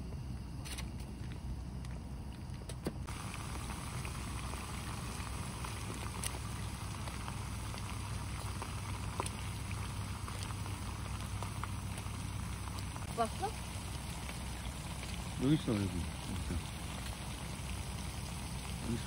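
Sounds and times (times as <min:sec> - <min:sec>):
food sizzling in a frying pan: 0:03.0 - 0:19.0.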